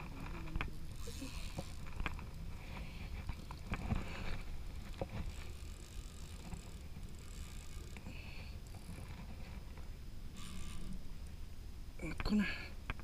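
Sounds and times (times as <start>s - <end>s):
water against kayak: 0.0s - 11.5s.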